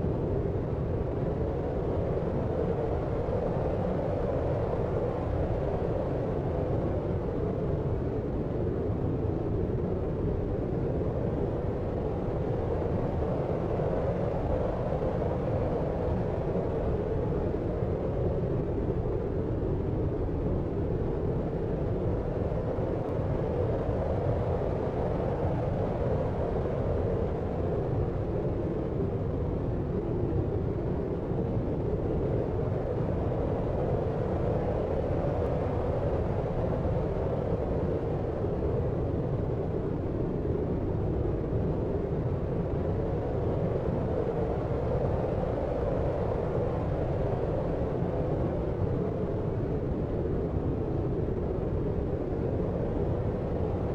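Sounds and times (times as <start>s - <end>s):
brown noise low rumble: 0.0s - 53.9s.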